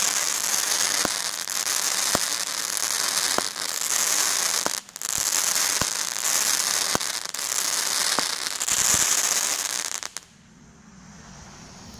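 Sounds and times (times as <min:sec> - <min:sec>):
firework fizzing hiss: 0:00.0 - 0:10.3
firework sharp pops: 0:00.0 - 0:10.3.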